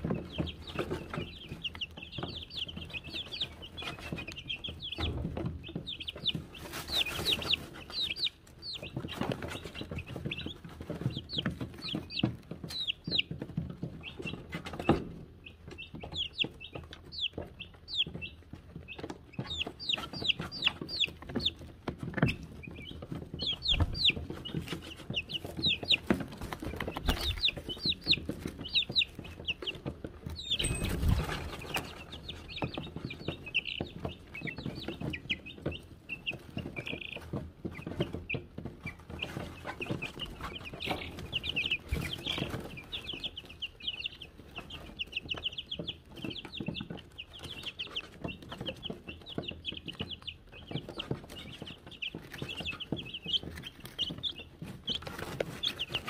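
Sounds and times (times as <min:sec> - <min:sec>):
chicks peeping: 0:00.0 - 0:56.0
small taps and rustles: 0:00.0 - 0:56.0.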